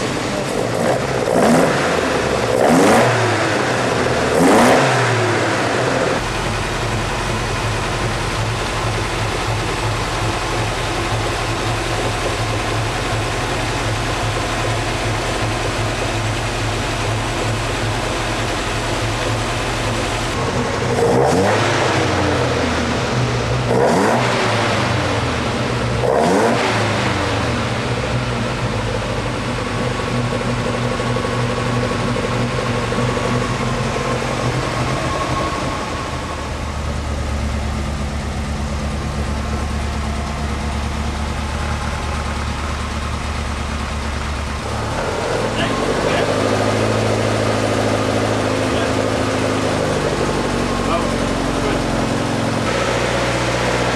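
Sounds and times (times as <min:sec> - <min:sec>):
car engine revving and idling: 0:00.0 - 0:53.9.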